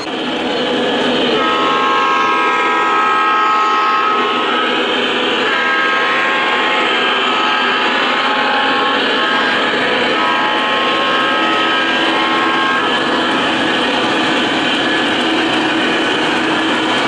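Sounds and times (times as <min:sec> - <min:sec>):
model train rumbling on track: 0:00.0 - 0:17.0
multi-note train horn: 0:00.7 - 0:17.0.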